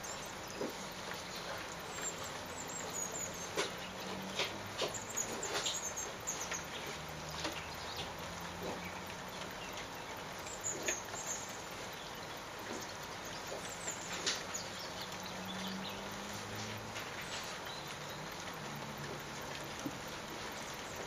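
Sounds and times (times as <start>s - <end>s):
rain pattering: 0.0s - 21.0s
sharp water drips: 0.0s - 21.0s.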